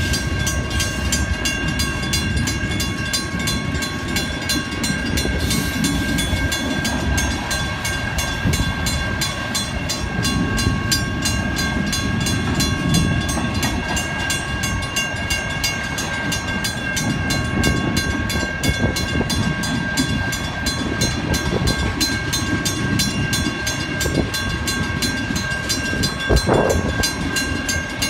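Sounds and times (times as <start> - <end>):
crossing bell ringing: 0.0 - 28.0
freight cars rumbling on rail: 0.0 - 28.0.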